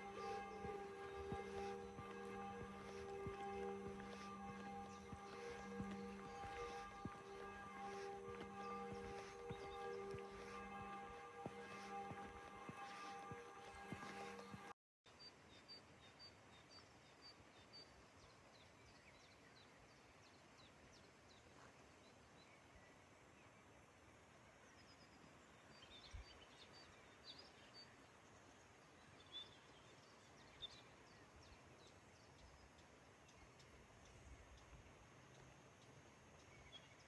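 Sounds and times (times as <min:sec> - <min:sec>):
faint birdsong: 0:00.0 - 0:37.0.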